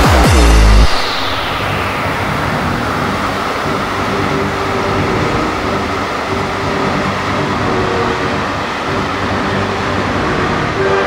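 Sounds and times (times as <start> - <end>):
faint steady whine: 0.9 - 11.0
train wheels on rails: 1.8 - 11.0.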